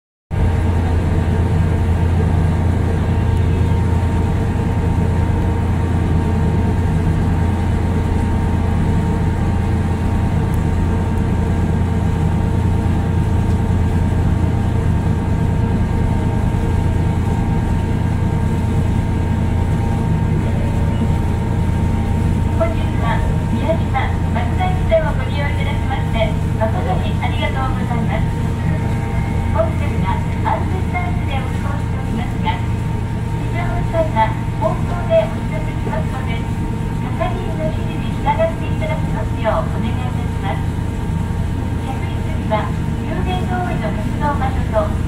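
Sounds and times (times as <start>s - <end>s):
ferry engines humming: 0.3s - 45.0s.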